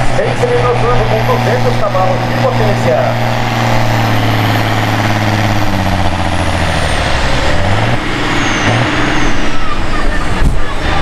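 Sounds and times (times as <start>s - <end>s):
diesel engine running hard: 0.0s - 11.0s
turbo whine: 0.0s - 11.0s.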